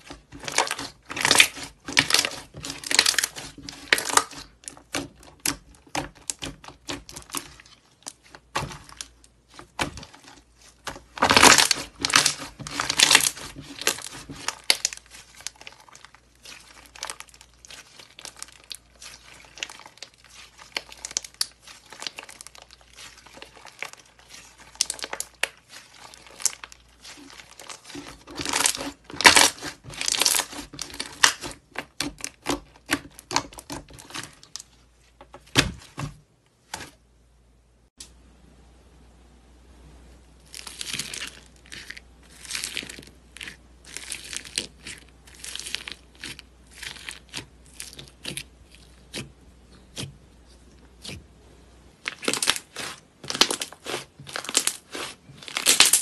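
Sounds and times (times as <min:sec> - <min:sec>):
slime crackling and popping: 0:00.0 - 0:34.7, 0:40.5 - 0:49.3, 0:52.0 - 0:56.0.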